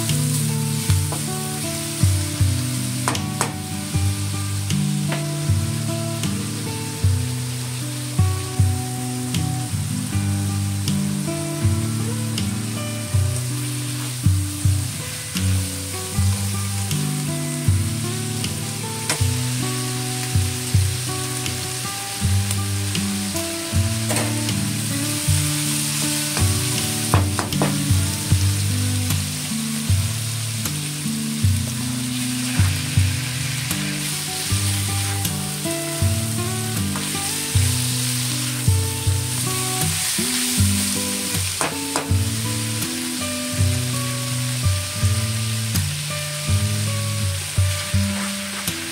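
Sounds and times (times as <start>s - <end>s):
background music: 0.0s - 48.9s
meat and onions sizzling in wok: 0.0s - 48.9s.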